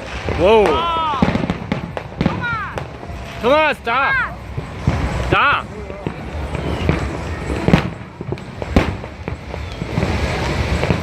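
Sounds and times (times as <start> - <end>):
fireworks crackling and popping: 0.0 - 11.0
sharp firework bangs: 0.0 - 11.0.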